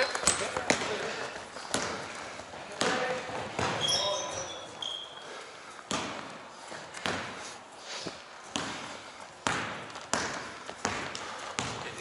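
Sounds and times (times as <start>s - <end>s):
basketball bouncing on court: 0.0s - 4.6s, 5.8s - 7.4s, 8.4s - 12.0s.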